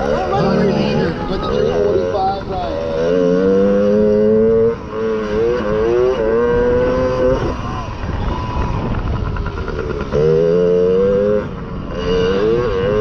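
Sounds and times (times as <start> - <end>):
motocross bike engine revving: 0.0 - 13.0
rough rushing noise: 0.0 - 13.0.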